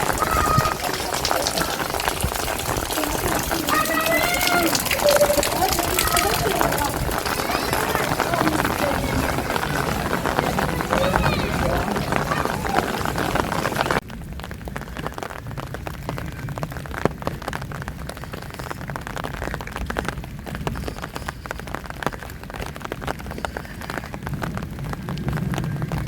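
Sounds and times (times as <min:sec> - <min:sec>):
raindrops tapping: 0:00.0 - 0:26.0.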